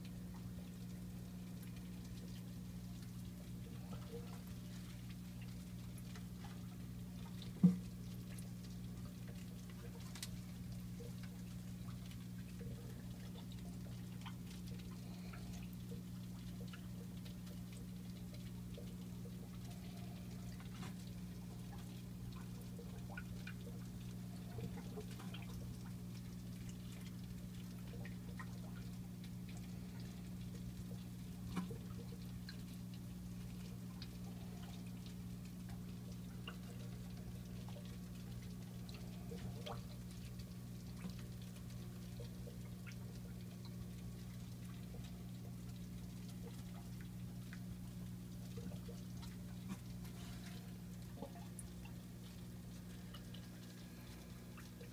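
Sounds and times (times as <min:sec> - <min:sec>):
electrical hum: 0:00.0 - 0:54.9
small ticks: 0:00.0 - 0:54.9
water drips: 0:00.0 - 0:54.9.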